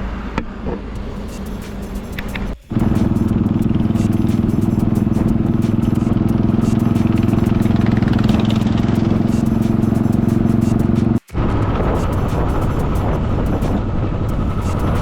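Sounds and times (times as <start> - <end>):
motorcycle engine running: 0.6 - 15.0.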